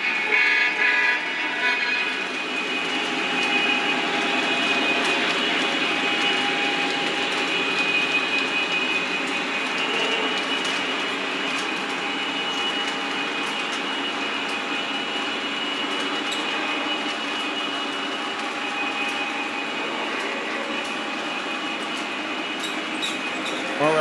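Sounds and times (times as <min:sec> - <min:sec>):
model train wheels rolling on rail: 0:00.0 - 0:24.0
high motor whine: 0:00.8 - 0:24.0.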